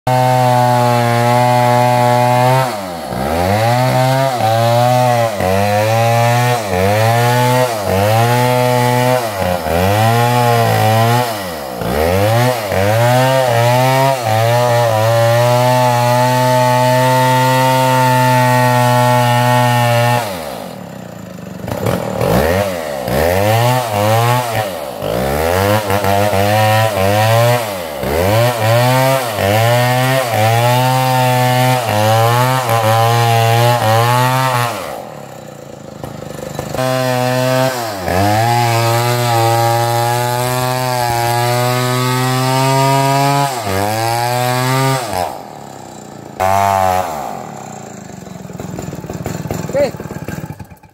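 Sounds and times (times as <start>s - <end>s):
chainsaw engine revving: 0.1s - 50.9s.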